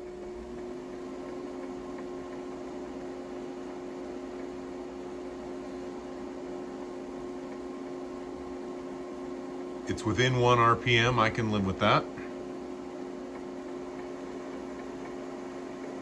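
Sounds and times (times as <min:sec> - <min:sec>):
lathe motor humming: 0:00.0 - 0:16.0.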